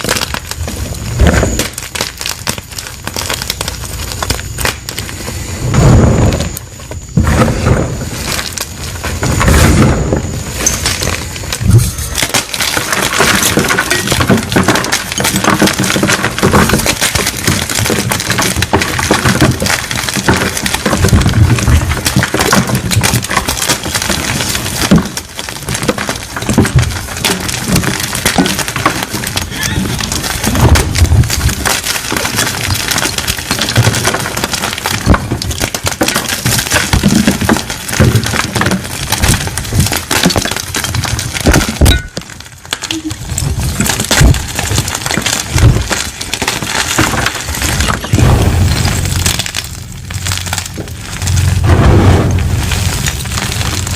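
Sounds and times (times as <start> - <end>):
chalk blocks crunching: 0.0 - 53.9.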